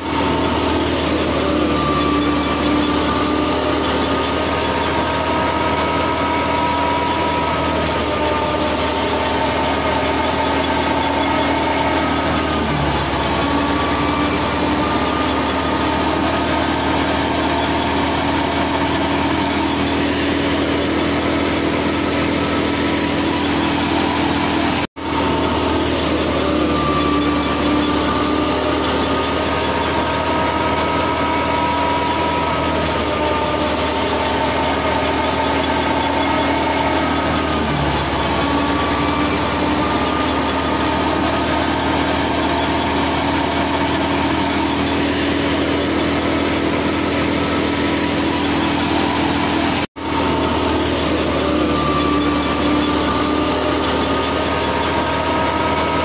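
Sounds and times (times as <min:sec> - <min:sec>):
small machine motor humming: 0:00.0 - 0:56.0.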